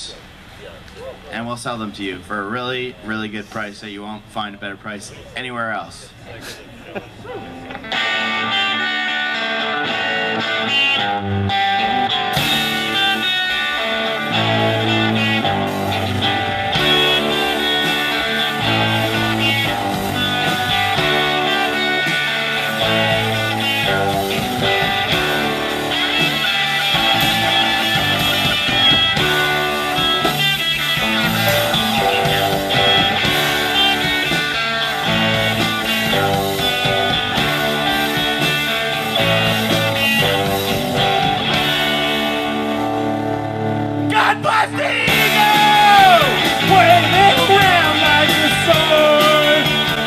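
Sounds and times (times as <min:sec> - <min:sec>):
live rock band playing: 0:06.7 - 0:50.0.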